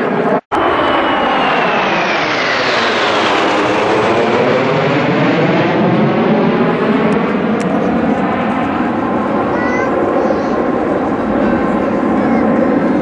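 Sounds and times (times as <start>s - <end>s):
jets passing overhead: 0.0s - 13.0s.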